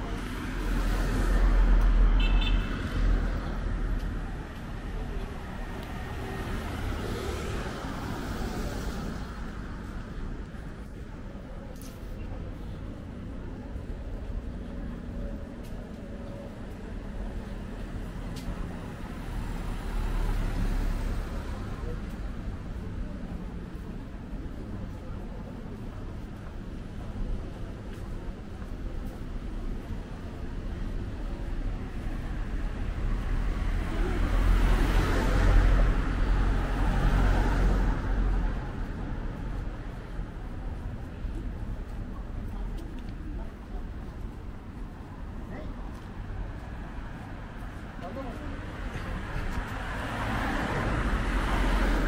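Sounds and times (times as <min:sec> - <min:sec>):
passing vehicles rumble: 0:00.0 - 0:52.0.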